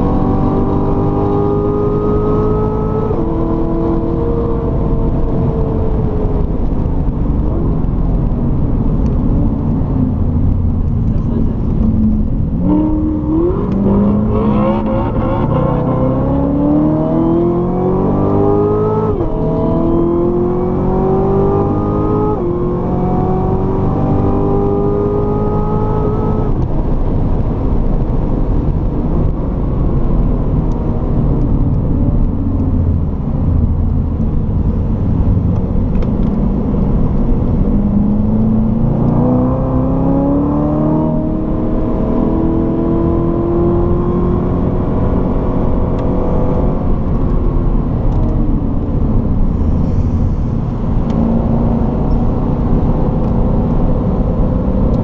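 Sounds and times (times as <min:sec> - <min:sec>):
car engine accelerating: 0:00.0 - 0:55.0
wind and tyre noise: 0:00.0 - 0:55.0.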